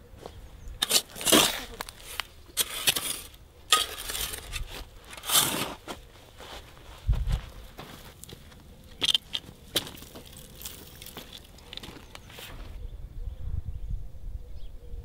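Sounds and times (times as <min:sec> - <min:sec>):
scraping stony earth: 0:00.7 - 0:12.8.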